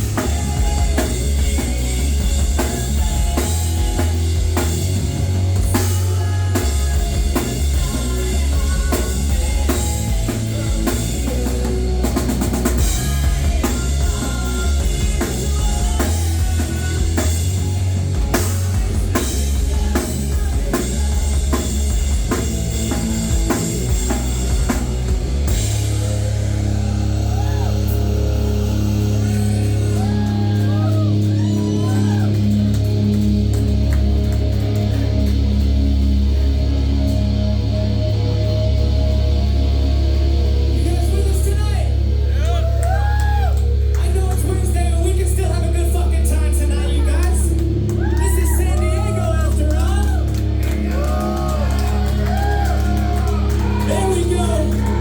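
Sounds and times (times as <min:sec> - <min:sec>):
drum kit pounding: 0:00.0 - 0:55.0
rock band playing live: 0:00.0 - 0:55.0.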